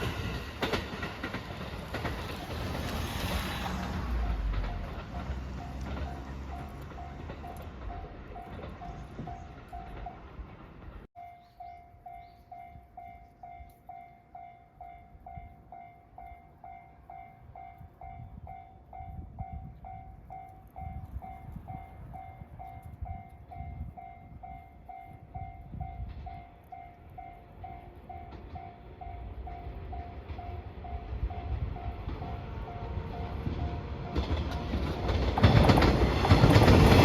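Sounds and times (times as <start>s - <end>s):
low train rumble: 0.0s - 37.0s.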